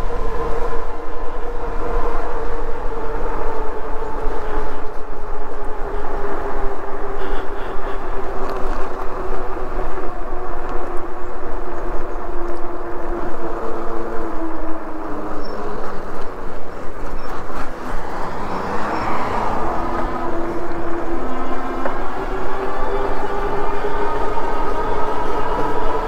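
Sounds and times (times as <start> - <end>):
e-bike motor and tyre hum: 0.0 - 26.0.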